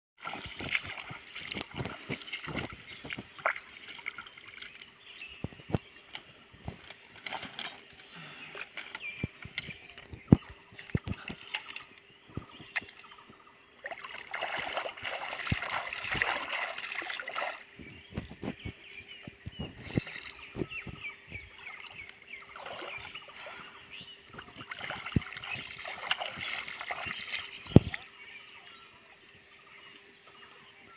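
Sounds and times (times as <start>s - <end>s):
hands splashing pond water: 0.2s - 18.5s, 19.3s - 28.2s.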